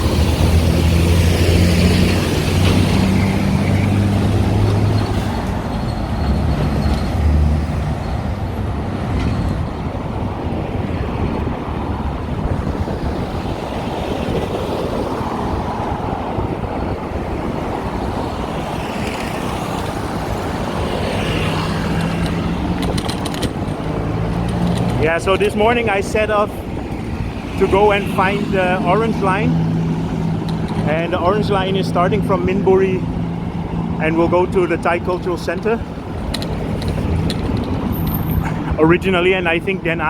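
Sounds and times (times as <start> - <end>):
road traffic: 0.0 - 40.0
vehicles passing: 0.0 - 40.0.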